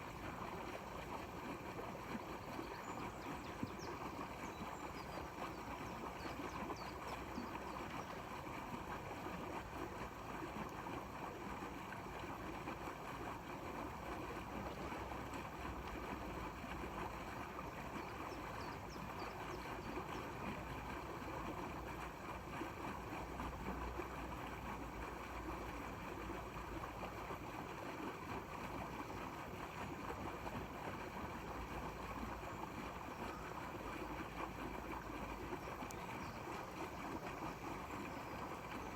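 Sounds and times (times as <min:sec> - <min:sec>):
water: 0:00.0 - 0:38.9
wind: 0:00.0 - 0:38.9.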